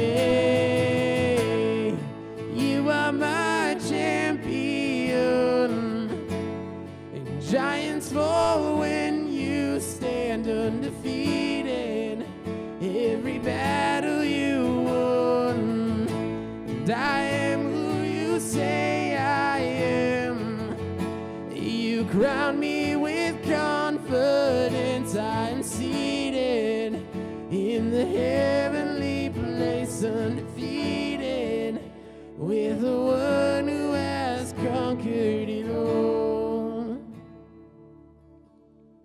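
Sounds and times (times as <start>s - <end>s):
man singing: 0.0s - 37.3s
acoustic guitar strumming: 0.0s - 39.0s.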